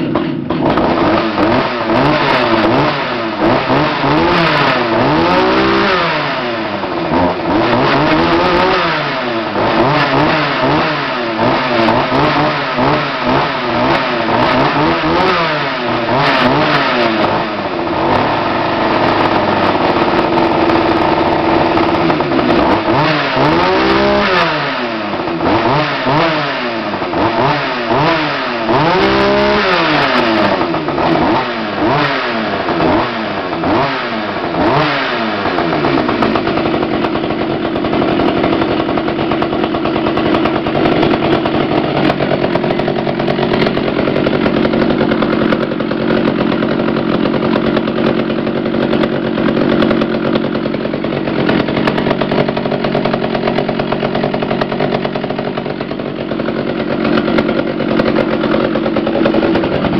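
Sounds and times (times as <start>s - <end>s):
chainsaw revving and running: 0.0s - 59.9s.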